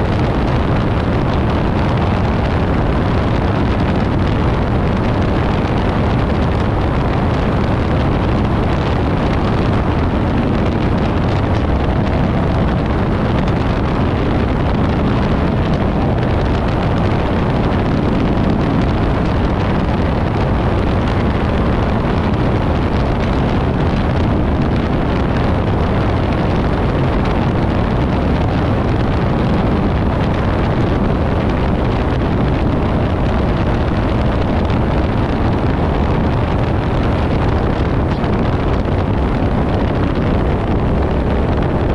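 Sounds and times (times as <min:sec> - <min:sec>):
airplane engine running: 0:00.0 - 0:41.9
wind rush: 0:00.0 - 0:41.9.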